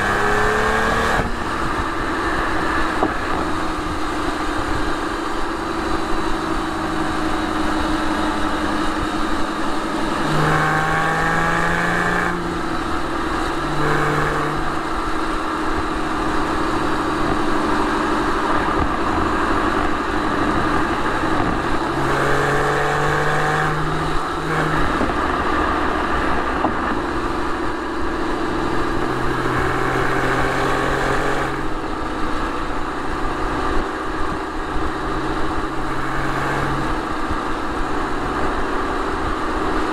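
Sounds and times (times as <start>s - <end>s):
car engine and exhaust cruising: 0.0s - 39.9s.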